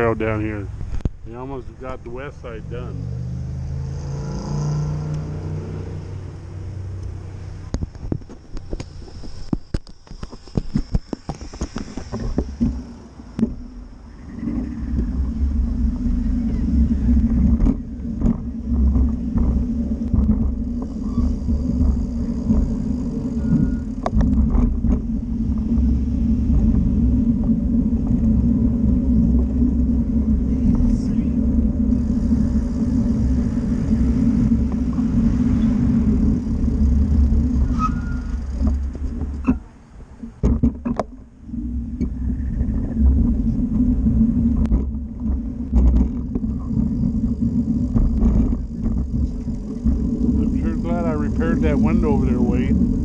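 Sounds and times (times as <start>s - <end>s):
road noise: 0.0s - 53.0s
wind rumble on microphone: 0.0s - 53.0s.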